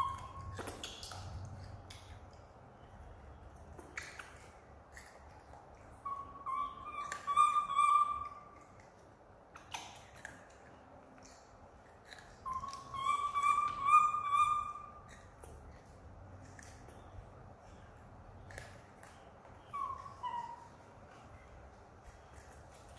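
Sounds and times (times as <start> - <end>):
eating clicks: 0.0 - 20.5.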